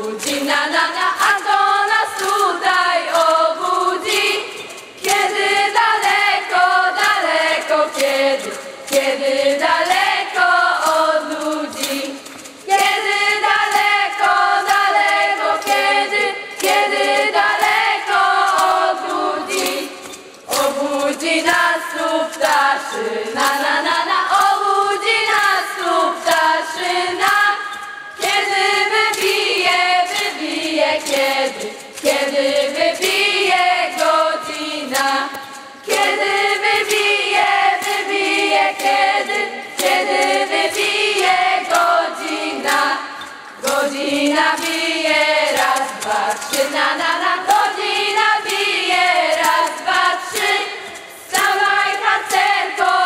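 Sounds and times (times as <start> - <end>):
group singing together: 0.0 - 53.0.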